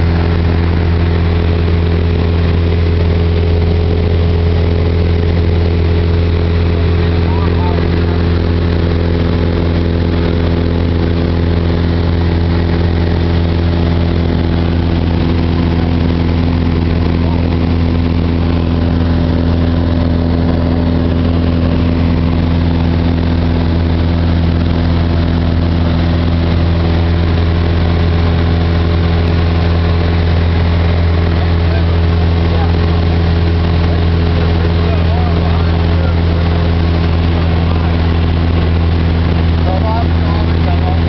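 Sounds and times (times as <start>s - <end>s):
airplane engine drone in flight: 0.0s - 41.0s.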